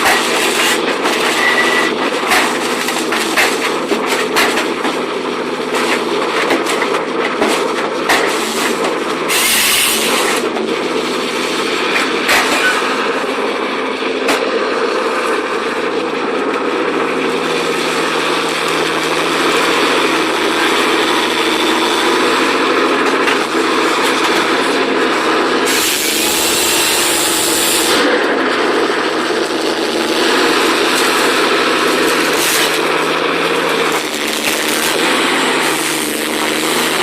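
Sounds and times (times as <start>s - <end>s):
wood-working machinery running: 0.0s - 37.0s.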